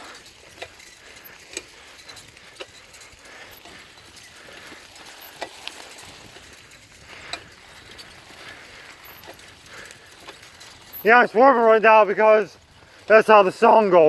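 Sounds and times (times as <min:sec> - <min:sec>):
bicycle clicks and rattles: 0:00.0 - 0:14.0.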